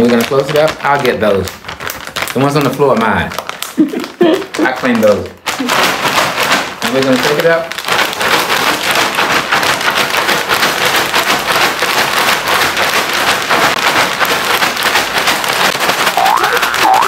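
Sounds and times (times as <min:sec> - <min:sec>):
popcorn shaken in plastic bag: 0:00.0 - 0:17.0.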